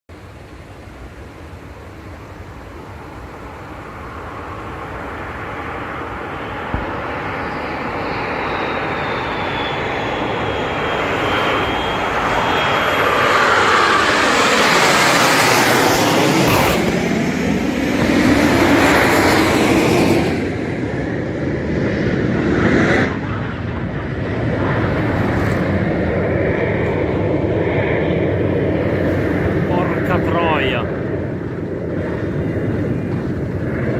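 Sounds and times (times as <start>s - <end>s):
fighter jet engine roar: 0.1s - 33.9s
high jet whine: 0.1s - 33.9s.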